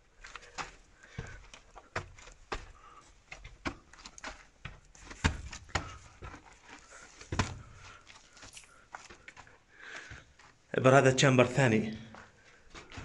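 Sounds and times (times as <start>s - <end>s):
footsteps on gritty cave floor: 0.0s - 13.0s.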